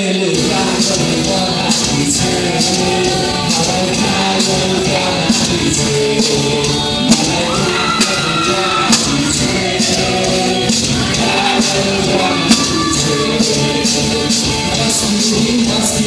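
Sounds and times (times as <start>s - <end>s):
amplified backing music: 0.0s - 16.0s
man singing into microphone: 0.0s - 16.0s.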